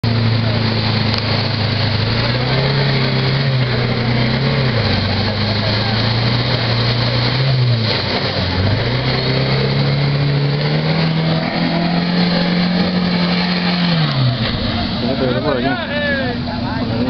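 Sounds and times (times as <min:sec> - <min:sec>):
engine revving under load: 0:00.0 - 0:15.9
mud splashing from wheels: 0:00.0 - 0:17.0.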